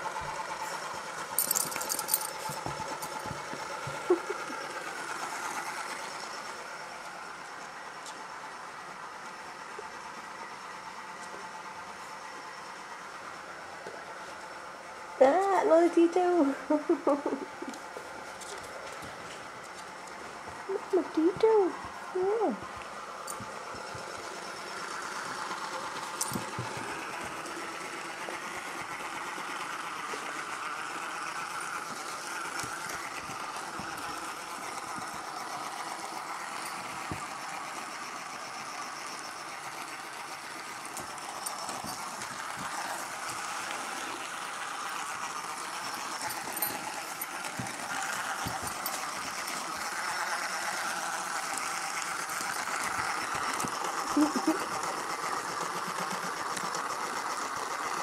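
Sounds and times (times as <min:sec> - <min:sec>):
toy motor whirring: 0:00.0 - 0:08.2, 0:15.2 - 0:58.0.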